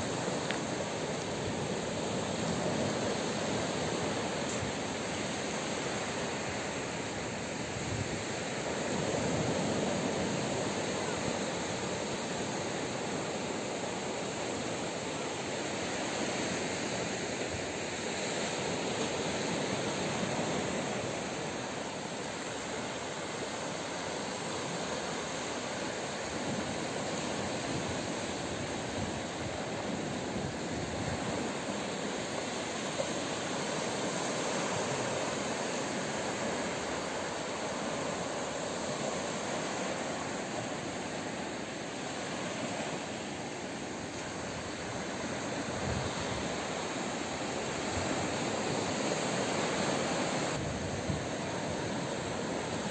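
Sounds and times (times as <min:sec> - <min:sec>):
sea surf breaking on beach: 0:00.0 - 0:52.9.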